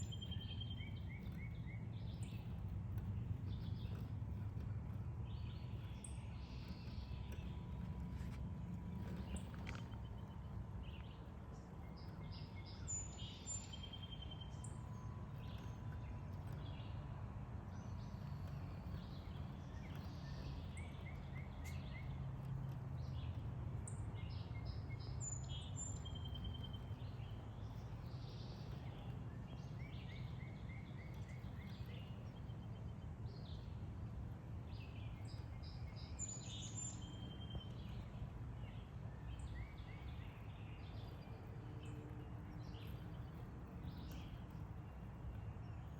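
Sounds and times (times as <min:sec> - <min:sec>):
songbirds singing: 0:00.0 - 0:45.9
steady low rumble: 0:00.0 - 0:45.9.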